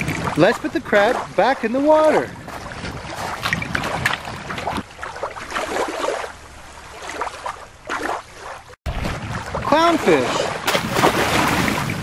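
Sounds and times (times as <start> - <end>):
water splashing and lapping: 0.0 - 12.0.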